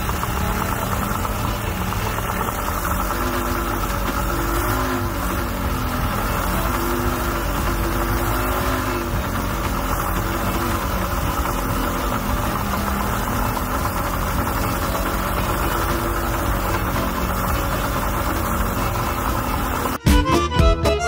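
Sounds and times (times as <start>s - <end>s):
outboard motor idling: 0.0s - 20.1s
music: 0.0s - 21.0s.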